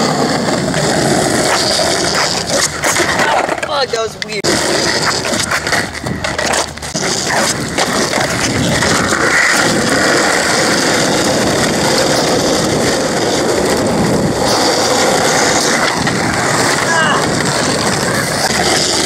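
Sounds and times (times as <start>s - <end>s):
skateboard wheels rolling on asphalt: 0.0s - 19.0s
skateboard clacking on pavement: 0.1s - 19.0s.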